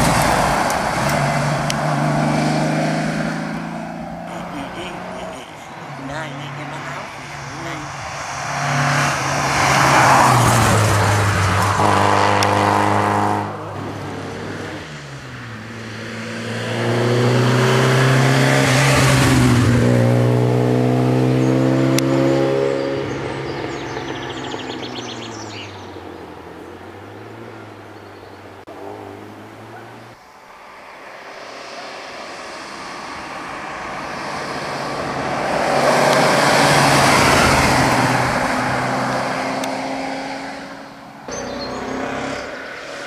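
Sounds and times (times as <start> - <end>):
rally car engines revving hard: 0.0 - 30.2, 31.2 - 43.0.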